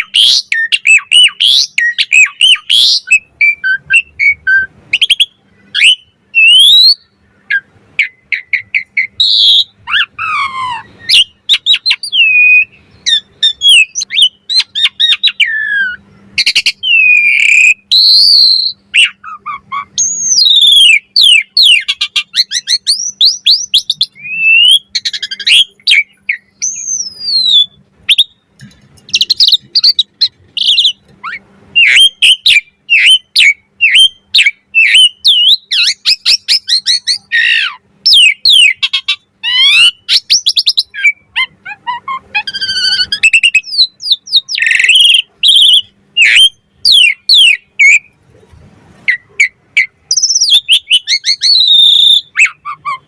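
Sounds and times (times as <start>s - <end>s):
starling singing: 0.0s - 48.3s, 49.0s - 53.0s.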